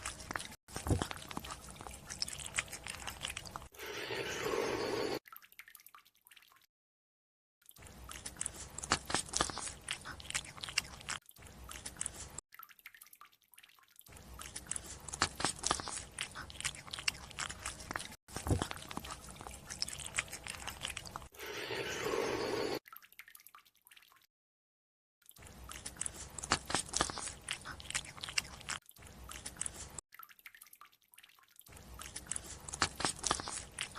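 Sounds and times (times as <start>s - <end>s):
wet food crunching: 0.0s - 5.1s, 7.6s - 24.3s, 25.2s - 33.9s.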